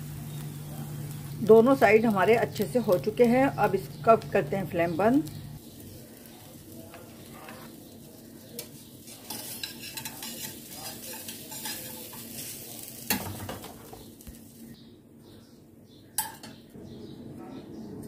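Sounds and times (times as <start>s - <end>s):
hot oil sizzling in a pan: 0.0s - 14.8s.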